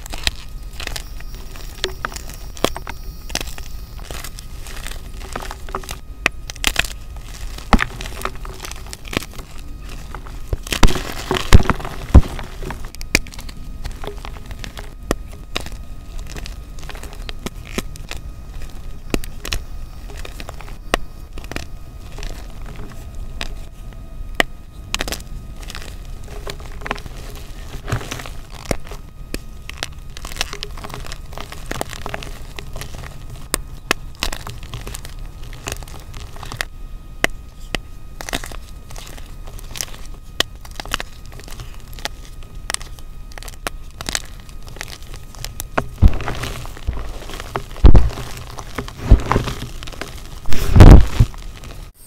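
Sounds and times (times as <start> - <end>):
chalk crunching and crumbling: 0.0 - 52.0.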